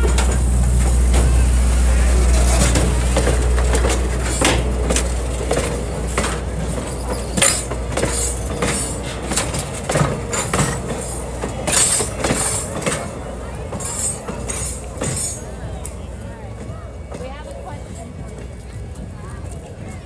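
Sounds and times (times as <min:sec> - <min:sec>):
low train rumble: 0:00.0 - 0:20.0
train wheels clanking on rails: 0:00.0 - 0:20.0.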